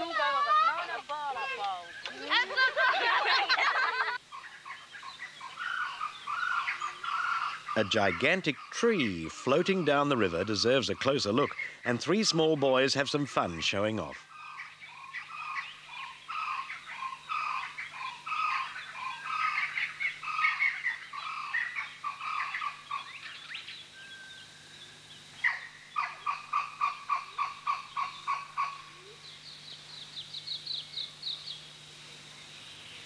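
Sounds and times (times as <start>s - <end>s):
animal chirping calls: 0.0s - 12.9s, 14.3s - 24.0s, 25.2s - 33.0s
rapid pulsed animal calls: 3.1s - 12.9s, 14.2s - 33.0s.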